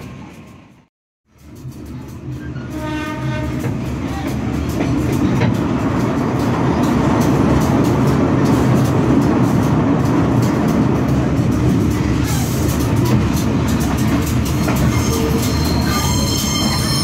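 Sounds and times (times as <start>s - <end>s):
train rumble: 0.0s - 17.0s
wheels clattering on rails: 0.1s - 17.0s.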